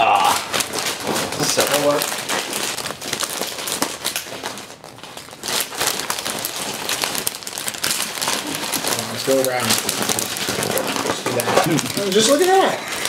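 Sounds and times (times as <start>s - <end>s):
wrapping paper crinkling: 0.0s - 13.0s.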